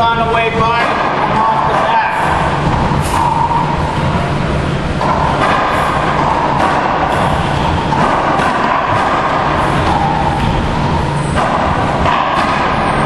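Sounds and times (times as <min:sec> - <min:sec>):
air handler rumbling hum: 0:00.0 - 0:13.0.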